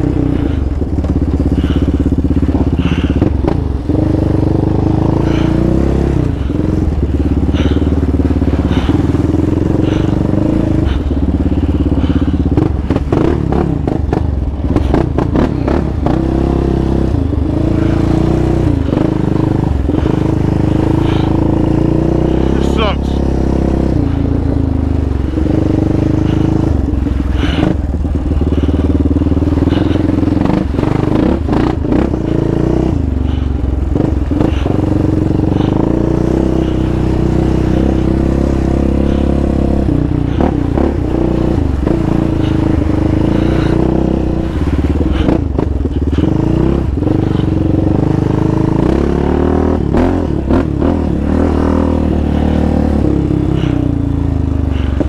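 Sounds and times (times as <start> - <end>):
quad clattering over rough trail: 0.0 - 55.0
quad engine running: 0.0 - 55.0.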